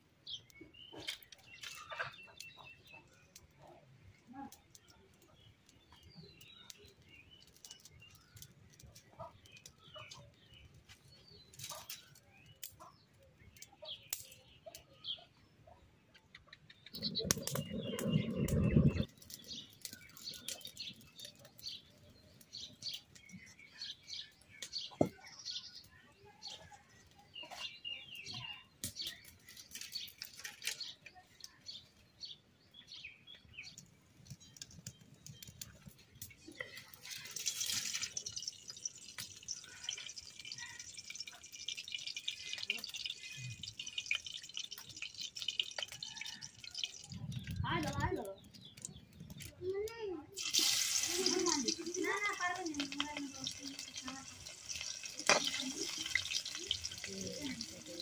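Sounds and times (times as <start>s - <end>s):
birds chirping: 0.0s - 58.0s
wood fire crackling and popping: 0.4s - 3.6s, 4.4s - 14.9s, 16.4s - 25.6s, 27.4s - 32.0s, 33.3s - 58.0s.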